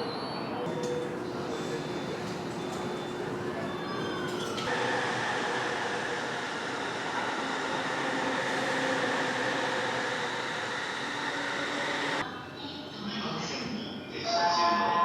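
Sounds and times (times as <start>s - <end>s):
commuter train running: 0.0s - 15.0s.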